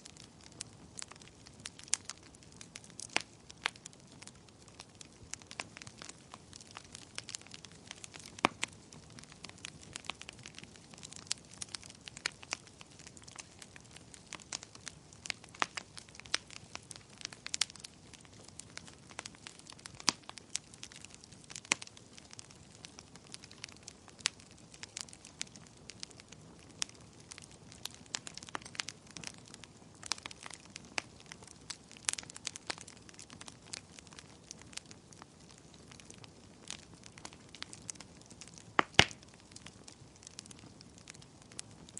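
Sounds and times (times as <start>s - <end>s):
faint steady hiss: 0.0s - 41.9s
fire crackling and popping: 0.0s - 41.9s.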